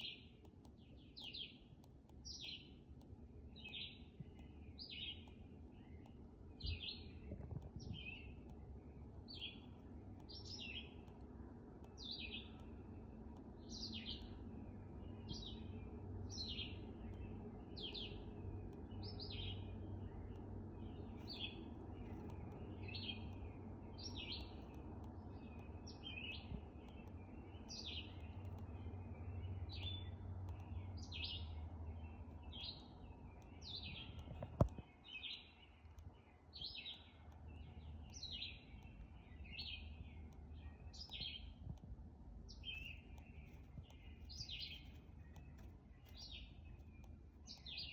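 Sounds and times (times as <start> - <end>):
bird chirping: 0.0 - 41.8, 42.4 - 47.9
low background rumble: 0.0 - 47.9.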